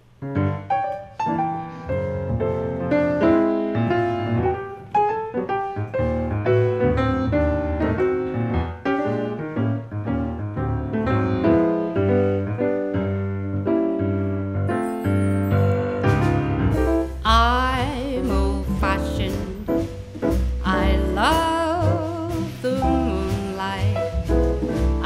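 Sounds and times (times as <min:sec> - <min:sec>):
jazz piano playing: 0:00.0 - 0:25.0.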